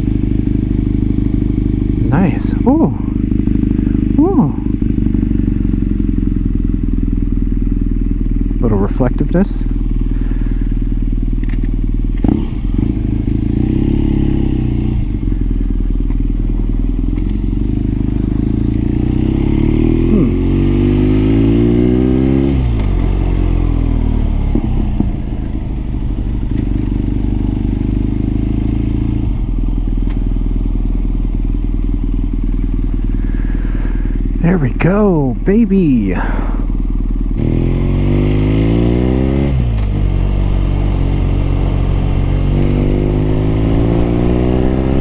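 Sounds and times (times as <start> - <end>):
motorcycle engine and exhaust: 0.0 - 45.0.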